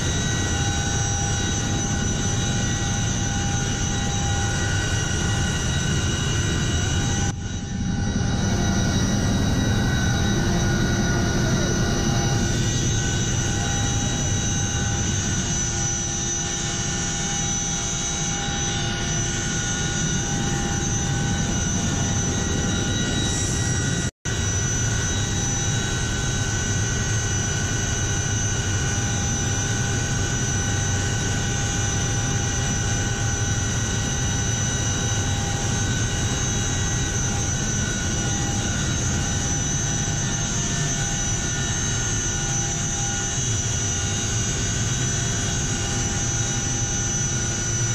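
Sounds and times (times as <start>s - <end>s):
helicopter running: 0.0s - 47.9s.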